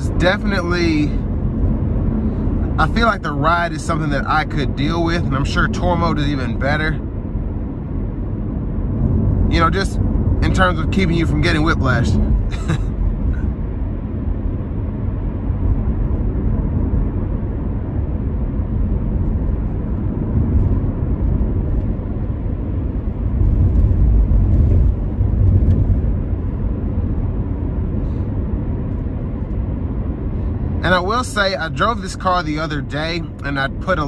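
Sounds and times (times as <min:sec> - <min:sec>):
car engine low rumble: 0:00.0 - 0:34.0
road and tyre noise: 0:00.0 - 0:34.0.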